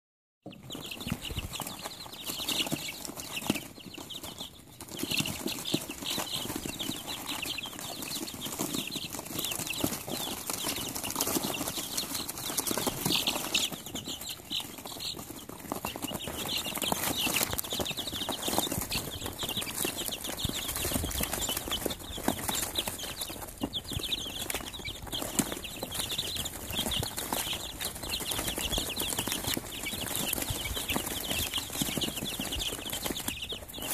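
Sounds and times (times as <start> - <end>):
chicks cheeping: 0.4 - 33.9.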